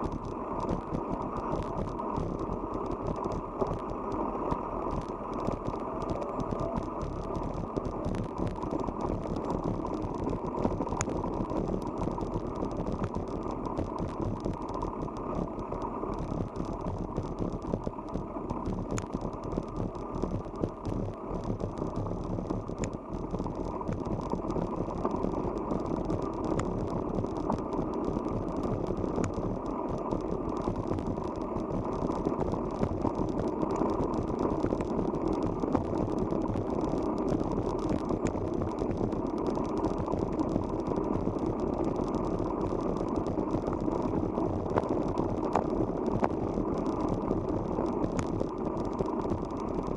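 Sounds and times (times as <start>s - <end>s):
bicycle tyre rumble: 0.0s - 49.9s.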